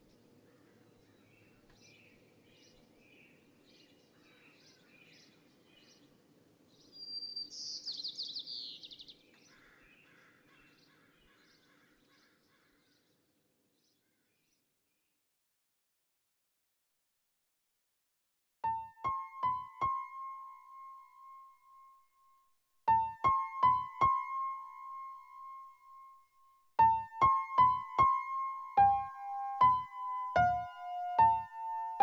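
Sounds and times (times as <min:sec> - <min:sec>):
faint outdoor background: 0:00.0 - 0:15.4, 0:18.6 - 0:32.0.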